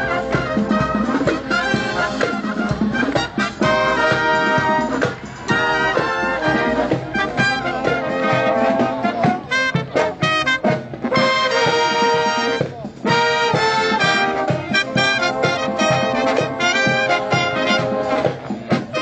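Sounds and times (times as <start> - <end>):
brass band playing up-tempo tune: 0.0 - 19.0.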